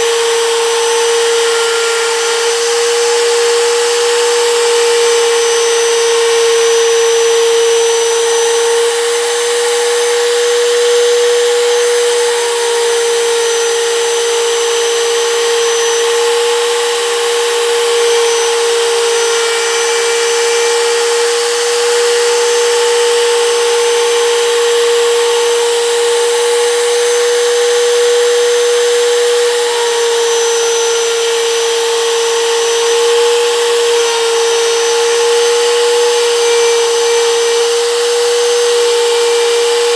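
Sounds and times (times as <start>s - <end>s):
router whining cutting wood: 0.0s - 39.9s.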